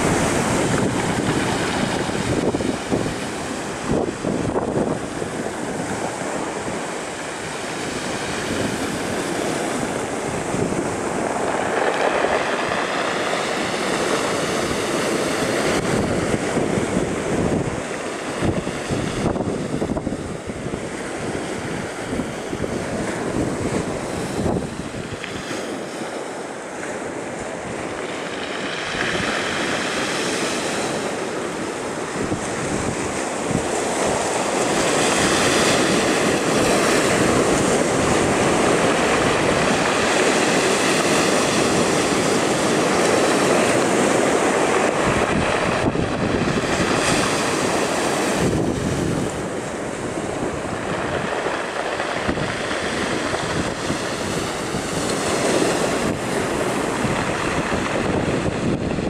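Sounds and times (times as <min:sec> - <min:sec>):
waves washing up pebble beach: 0:00.0 - 0:59.0.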